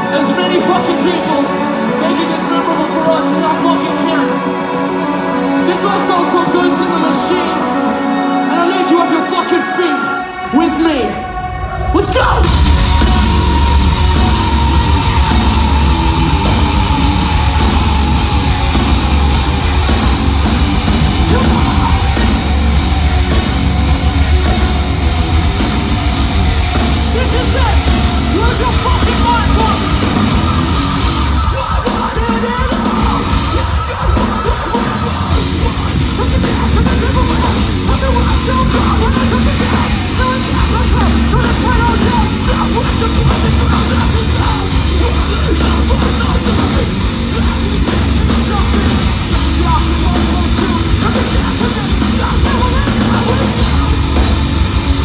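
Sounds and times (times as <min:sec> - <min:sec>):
metalcore band playing live: 0:00.0 - 0:55.0.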